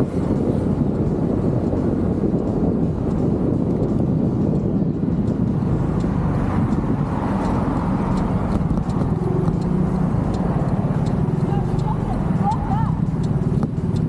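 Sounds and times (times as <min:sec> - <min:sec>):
road noise: 0:00.0 - 0:14.0
scooter engine droning: 0:00.0 - 0:14.0.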